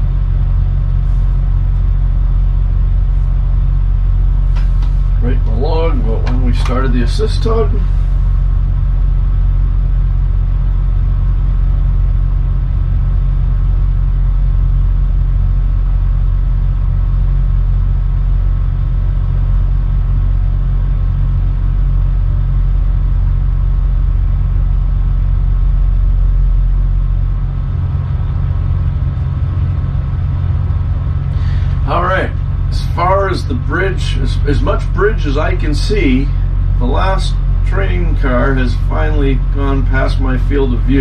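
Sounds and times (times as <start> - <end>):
deep diesel engine drone: 0.0 - 41.0.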